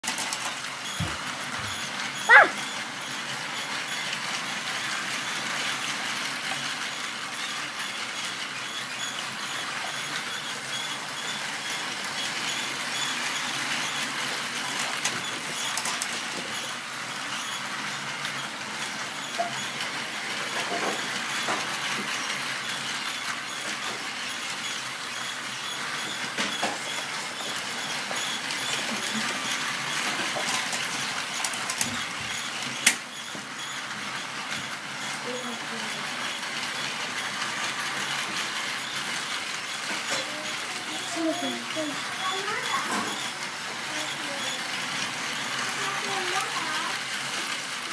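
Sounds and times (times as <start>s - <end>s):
toy train motor whir: 0.1s - 47.9s
toy train wheels rattling: 0.1s - 47.9s.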